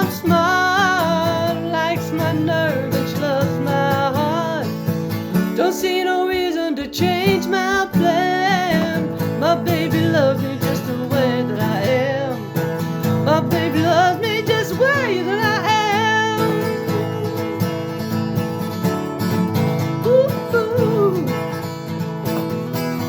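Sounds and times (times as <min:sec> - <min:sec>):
guitars: 0:00.0 - 0:23.0.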